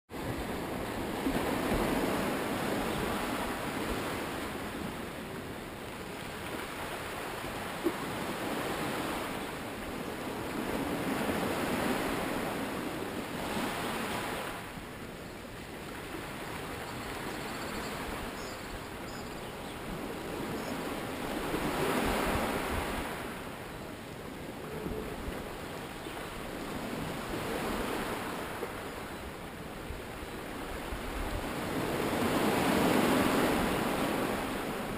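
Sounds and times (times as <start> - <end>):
small waves washing onto beach: 0.1 - 34.9.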